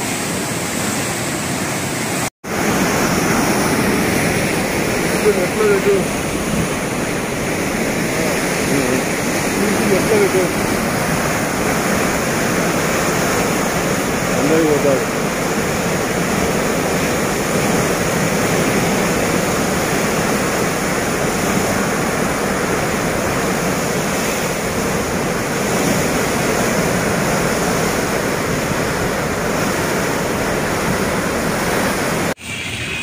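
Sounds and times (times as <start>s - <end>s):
floodwater rushing in river: 0.0s - 32.4s.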